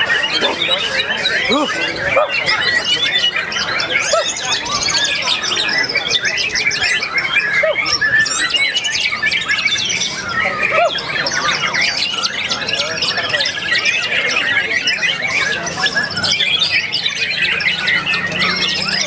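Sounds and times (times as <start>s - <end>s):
birds singing rapid chirps and trills: 0.0s - 19.0s.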